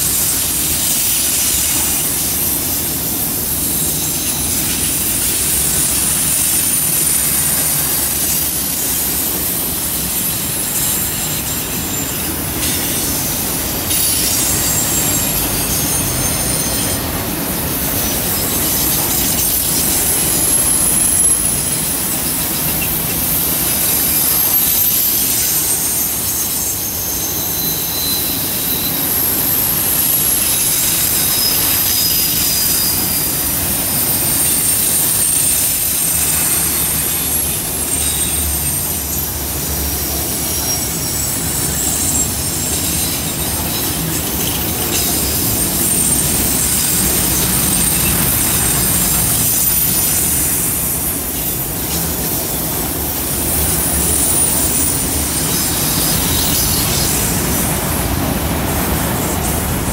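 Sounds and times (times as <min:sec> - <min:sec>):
high thin wheel squeal: 0:00.0 - 0:59.9
train wheels rumbling on rails: 0:00.0 - 0:59.9.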